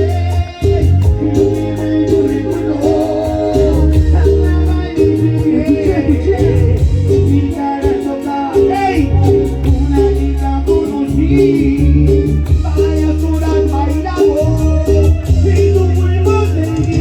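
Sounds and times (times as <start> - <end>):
latin dance music with singer: 0.0 - 17.0.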